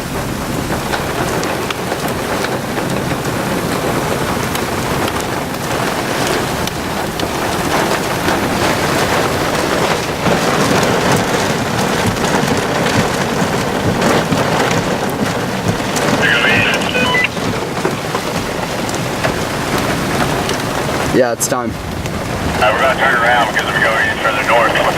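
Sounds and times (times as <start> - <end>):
wind-driven rain pelting a vehicle: 0.0 - 24.9.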